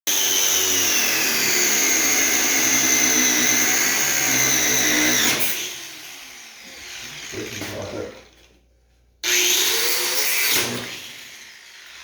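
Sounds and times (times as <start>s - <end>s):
power cutting tool whining: 0.1s - 8.1s, 9.2s - 12.0s.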